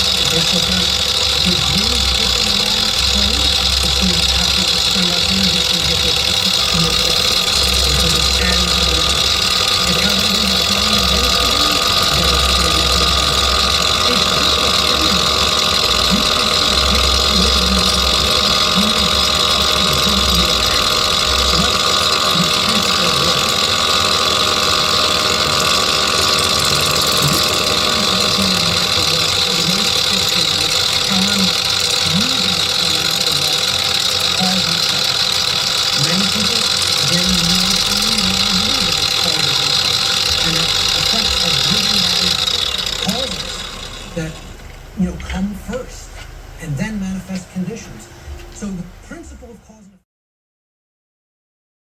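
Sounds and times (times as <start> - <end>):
machine tool whining: 0.0 - 50.0.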